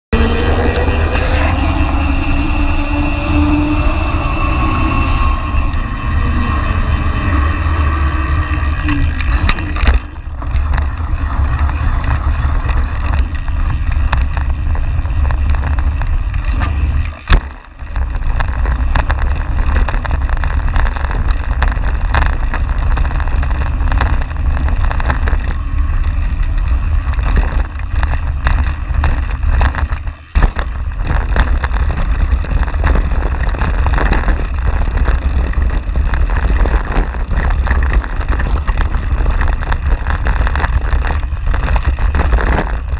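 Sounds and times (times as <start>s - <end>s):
bike rattling on rough ground: 0.1s - 42.9s
tyre rumble: 0.1s - 42.9s
wind buffeting microphone: 0.1s - 42.9s.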